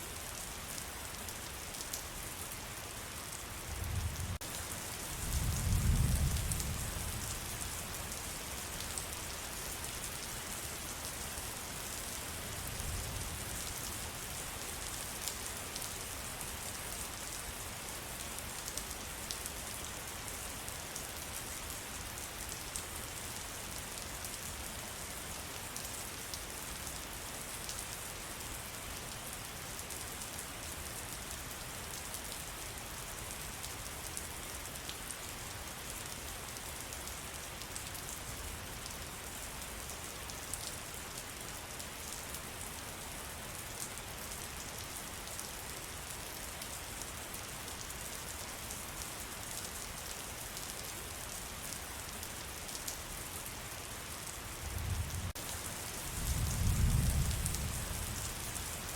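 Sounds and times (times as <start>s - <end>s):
rain falling in forest: 0.0s - 58.9s.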